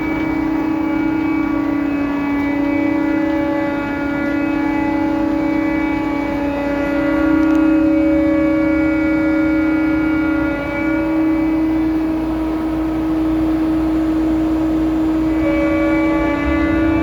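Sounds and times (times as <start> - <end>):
crane machinery droning: 0.0 - 17.0.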